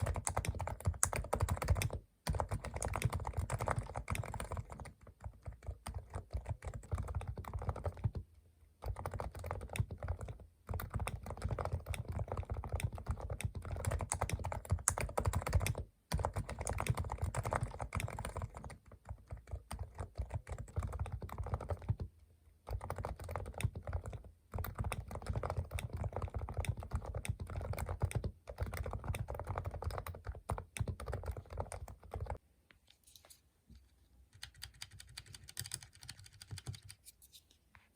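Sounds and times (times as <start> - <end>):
rapid keyboard typing: 0.0 - 32.4, 34.3 - 37.0.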